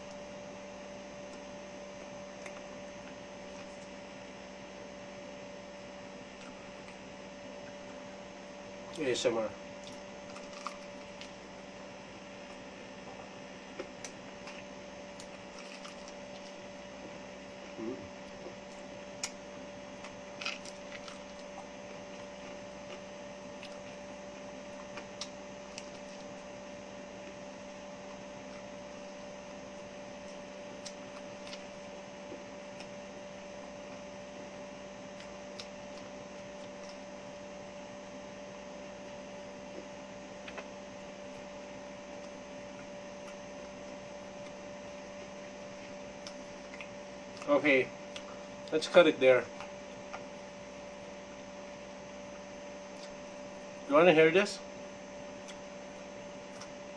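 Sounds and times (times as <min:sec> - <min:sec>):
electrical hum: 0:00.0 - 0:56.9.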